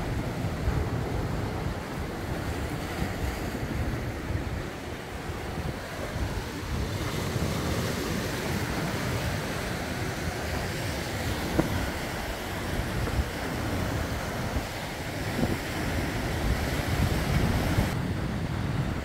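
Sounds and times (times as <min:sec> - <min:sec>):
sea surf on rocky shore: 0:00.0 - 0:19.0
wind buffeting microphone: 0:00.0 - 0:19.0.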